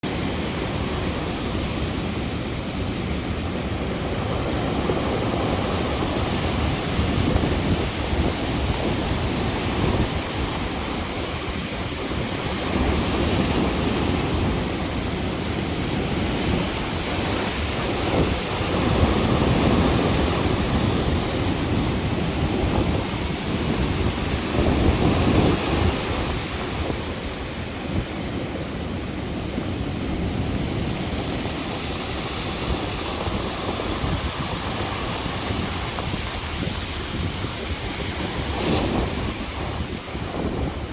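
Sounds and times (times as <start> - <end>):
waves breaking: 0.0 - 40.9
wind buffeting microphone: 0.0 - 40.9.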